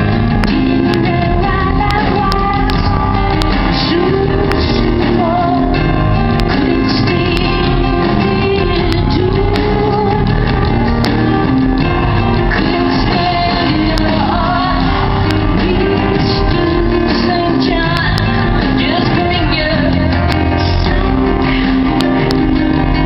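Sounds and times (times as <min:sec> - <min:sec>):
live rock band playing: 0:00.0 - 0:23.0
woman singing: 0:00.4 - 0:11.9, 0:12.5 - 0:22.9.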